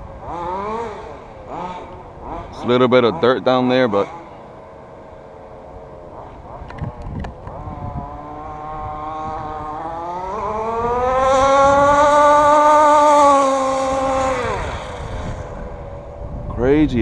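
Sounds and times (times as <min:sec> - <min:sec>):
rc car two-stroke engine revving: 0:00.0 - 0:16.3.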